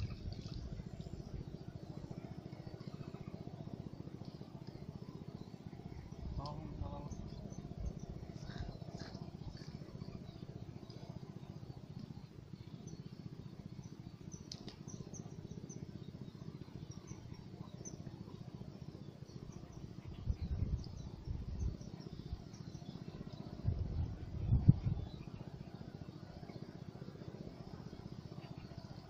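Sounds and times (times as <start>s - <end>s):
low steady rumble: 0.0s - 29.0s
small birds chirping: 0.0s - 29.0s.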